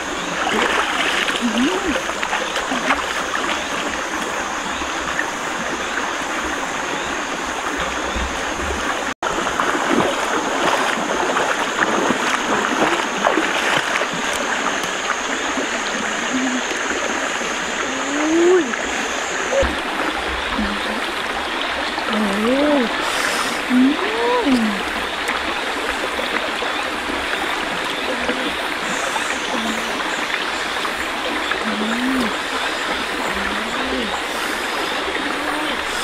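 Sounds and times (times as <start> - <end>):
stream running over rocks: 0.0 - 36.0.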